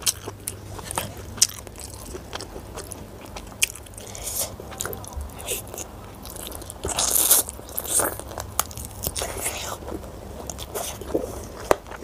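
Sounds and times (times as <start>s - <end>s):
chewing and biting: 0.0s - 12.0s.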